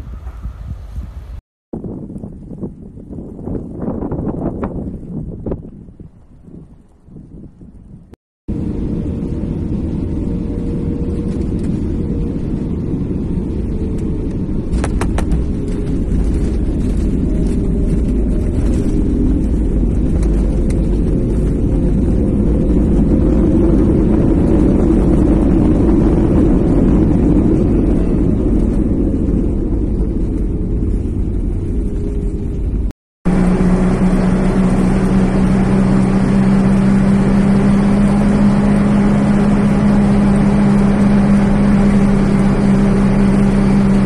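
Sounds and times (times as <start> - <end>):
jet engine and rolling rumble: 0.0 - 44.0.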